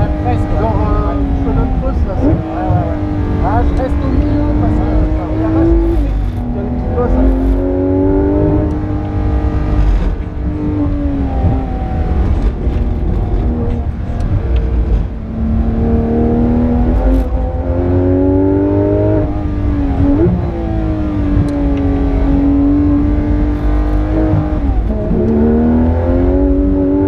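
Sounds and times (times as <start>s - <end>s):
car engine from inside cabin: 0.0s - 27.0s.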